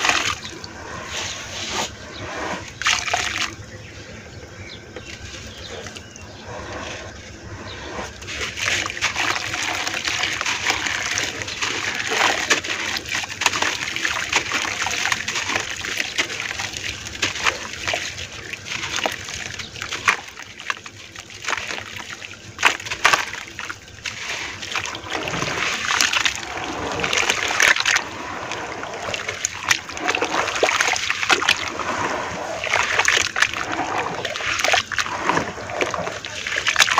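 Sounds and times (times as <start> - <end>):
hands squishing wet mud: 0.0 - 3.7, 4.7 - 36.9
water splashing and sloshing: 0.0 - 36.9.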